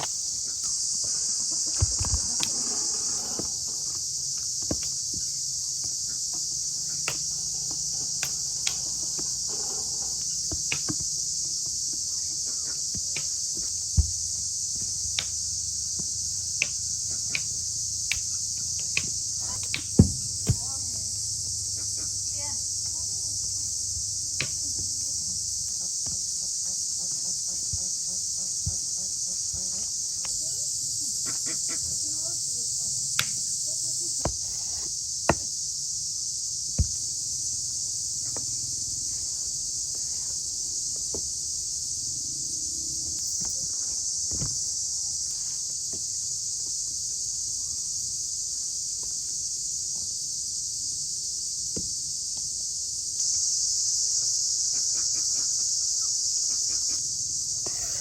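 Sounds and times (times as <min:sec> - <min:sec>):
insect chorus chirring: 0:00.0 - 0:58.0.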